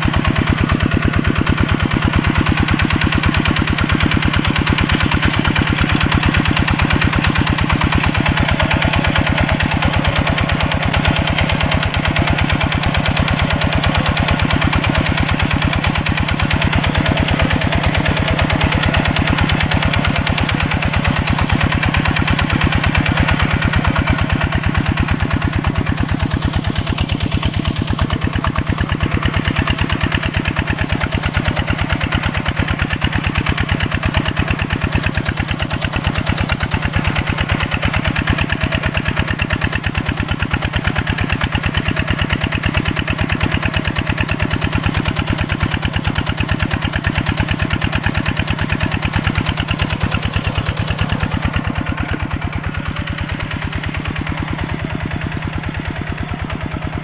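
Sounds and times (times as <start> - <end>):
diesel tractor engine chugging: 0.0 - 57.0.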